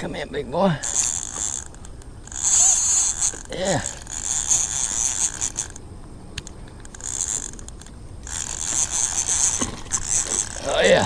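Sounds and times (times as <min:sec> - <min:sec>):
fishing reel whirring and clicking: 0:00.7 - 0:11.0.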